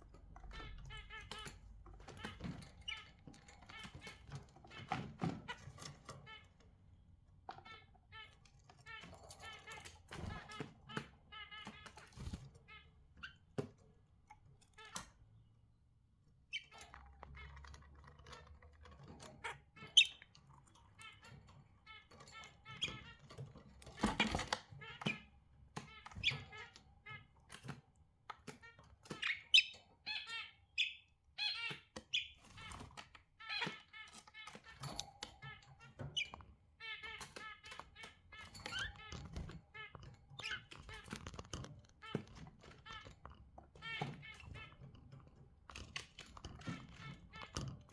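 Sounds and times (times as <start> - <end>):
budgerigars chirping: 0.4 - 13.6, 16.4 - 17.6, 19.0 - 27.7, 28.4 - 47.9.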